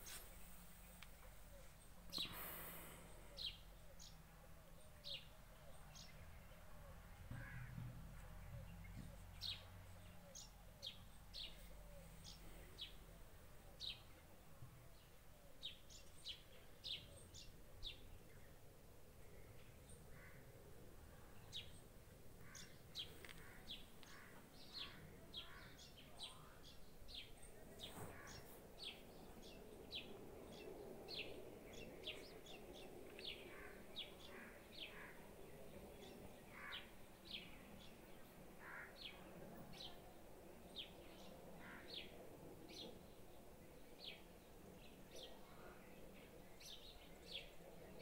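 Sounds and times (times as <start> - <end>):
faint bird chirping: 0.0 - 48.0
outdoor background noise: 0.0 - 48.0.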